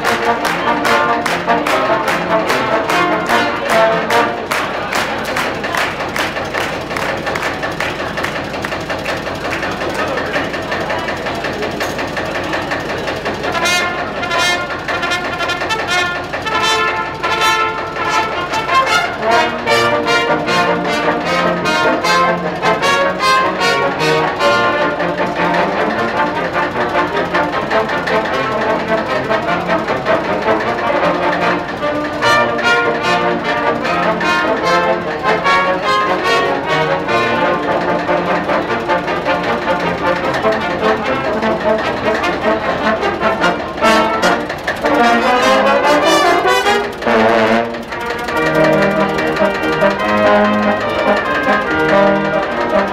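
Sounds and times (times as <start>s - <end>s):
brass ensemble playing: 0.0s - 10.3s, 12.8s - 52.9s
tractor engine idling: 0.0s - 52.9s.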